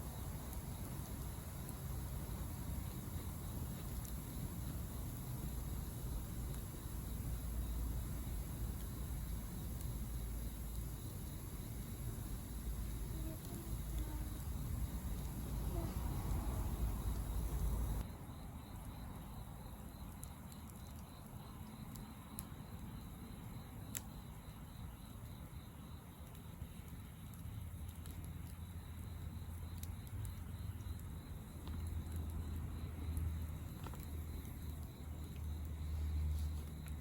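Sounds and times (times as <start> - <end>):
fire popping: 0.0 - 37.0
fire rumbling: 0.0 - 37.0
wood fire crackling: 0.0 - 37.0.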